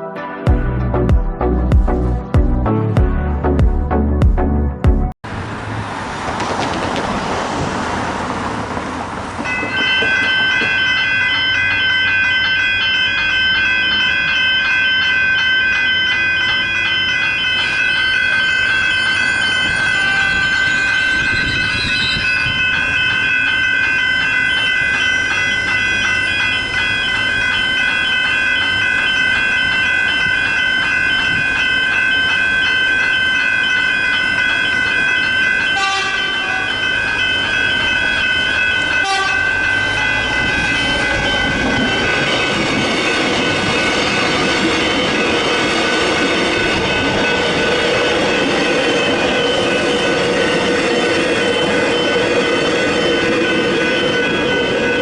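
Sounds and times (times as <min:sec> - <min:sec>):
train rumble: 0:05.2 - 0:55.0
level crossing bells ringing: 0:09.4 - 0:55.0.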